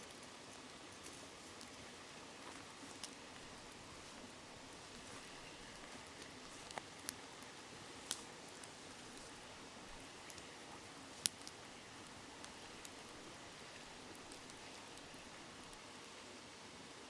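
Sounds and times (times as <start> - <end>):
campfire crackling and popping: 0.0 - 16.3
river murmuring: 1.1 - 16.3.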